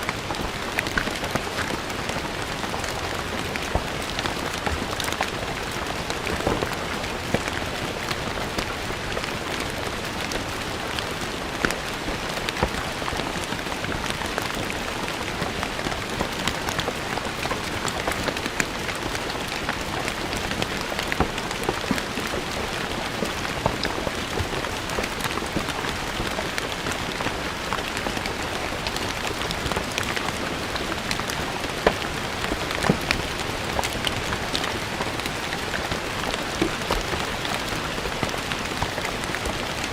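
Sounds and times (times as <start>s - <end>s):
rain on stone floor: 0.0s - 39.9s.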